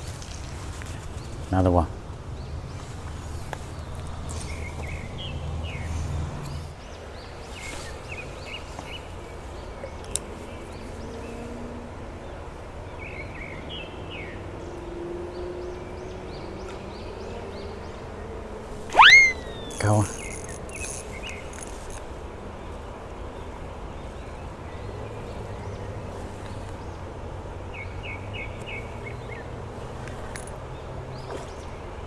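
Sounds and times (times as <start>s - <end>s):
small birds chirping: 0.0s - 11.6s, 12.2s - 32.0s.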